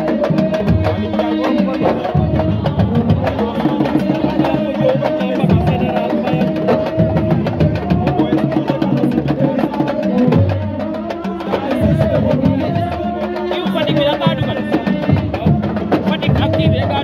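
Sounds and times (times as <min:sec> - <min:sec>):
fast drumming: 0:00.0 - 0:17.0
person singing: 0:00.0 - 0:17.0.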